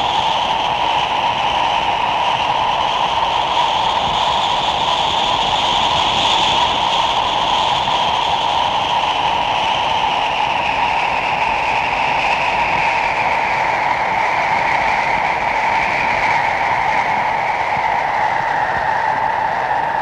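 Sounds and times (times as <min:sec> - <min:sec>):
rushing wind-like drone: 0:00.0 - 0:20.0.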